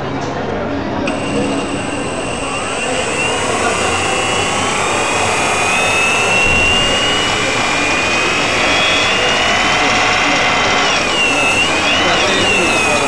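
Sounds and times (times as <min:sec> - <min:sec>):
high gear whine: 0:01.0 - 0:13.0
electric bike motor whir: 0:01.1 - 0:13.0.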